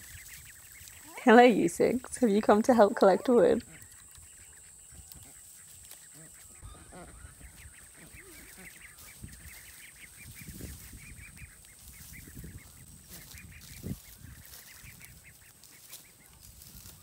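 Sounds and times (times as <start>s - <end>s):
ducks giving soft high calls: 0.0s - 17.0s
footsteps in dry leaves: 0.0s - 17.0s.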